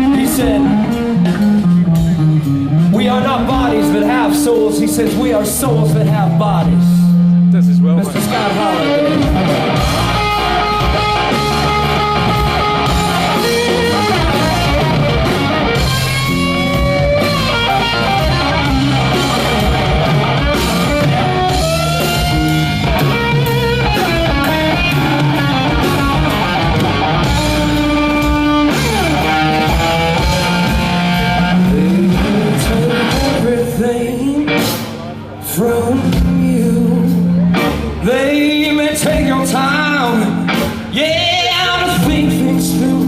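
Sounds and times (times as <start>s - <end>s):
electric guitar lead with bending notes: 0.0s - 43.0s
live rock band playing: 0.0s - 43.0s.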